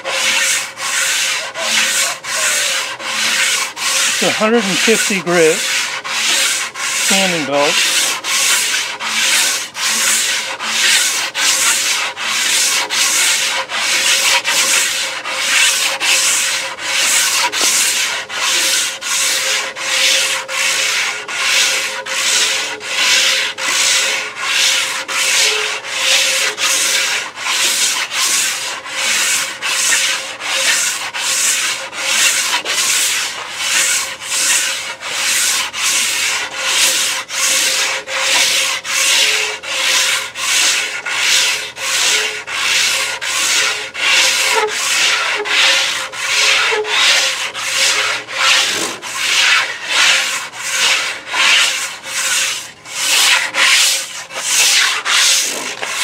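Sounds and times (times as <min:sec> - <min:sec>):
belt sander rasping on wood: 0:00.0 - 0:56.0.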